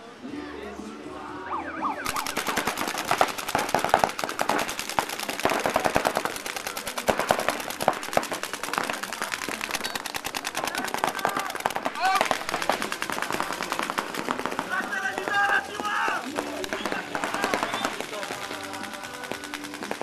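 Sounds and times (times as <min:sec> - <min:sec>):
paintball markers firing rapidly: 0:02.0 - 0:20.0.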